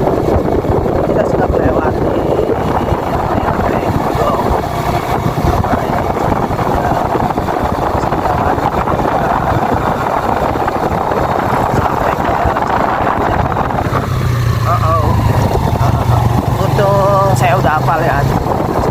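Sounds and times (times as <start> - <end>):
motorcycle engine running: 0.0 - 18.9
wind rushing over microphone: 0.0 - 18.9.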